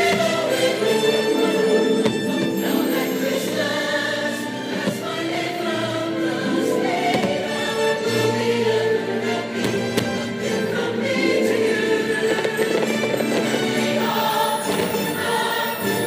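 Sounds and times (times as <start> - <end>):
choir singing christmas music: 0.0 - 16.0
orchestral backing: 0.0 - 16.0.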